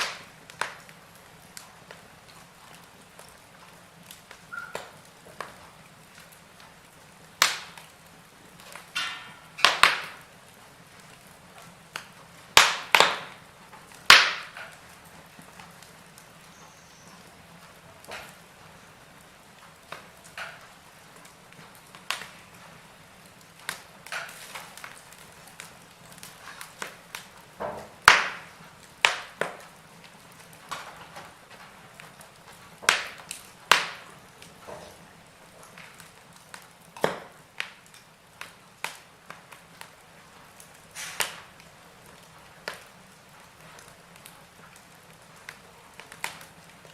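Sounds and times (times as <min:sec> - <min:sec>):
wood logs crackling in fireplace: 0:00.0 - 0:46.9.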